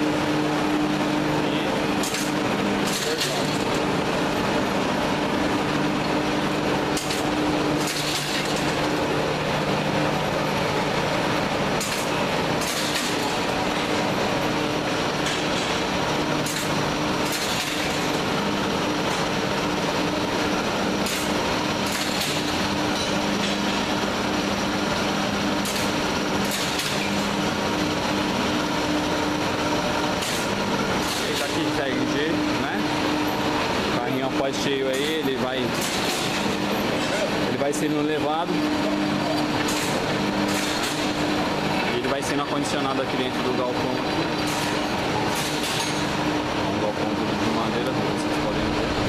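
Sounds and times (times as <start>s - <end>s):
machinery humming: 0.0s - 49.0s.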